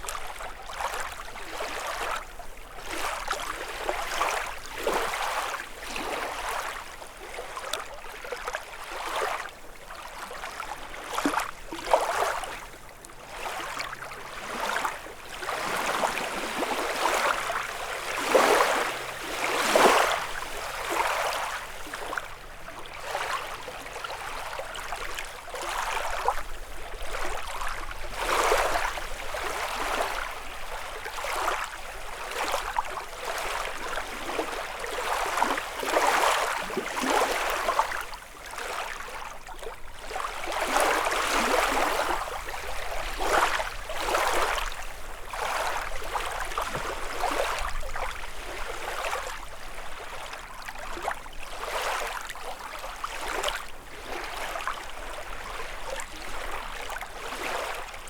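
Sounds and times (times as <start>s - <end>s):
waves lapping against shore: 0.0s - 58.0s.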